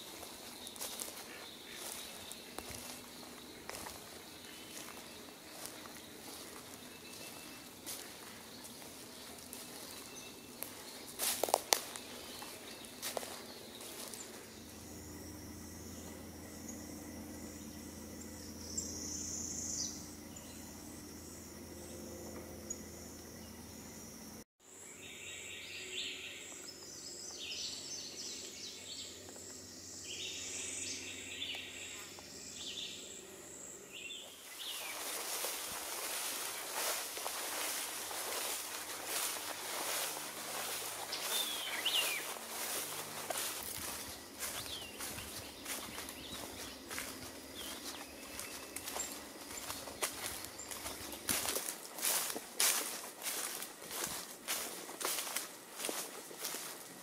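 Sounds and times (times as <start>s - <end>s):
birds trilling: 0.0s - 23.6s, 34.1s - 56.8s
high insect buzz: 0.0s - 24.4s, 27.5s - 57.0s.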